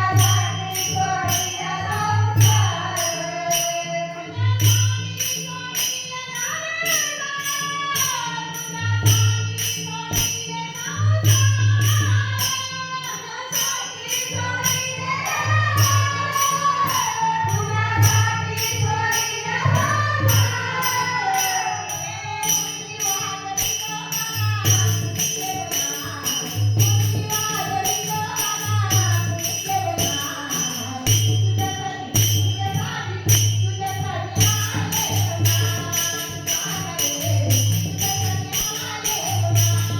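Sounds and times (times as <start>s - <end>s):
jingling percussion beat: 0.0s - 39.9s.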